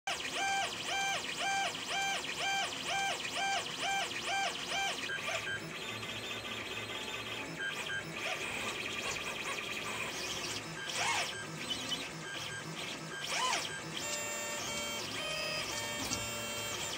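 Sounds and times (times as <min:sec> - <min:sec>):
stepper motors whining: 0:00.1 - 0:16.9.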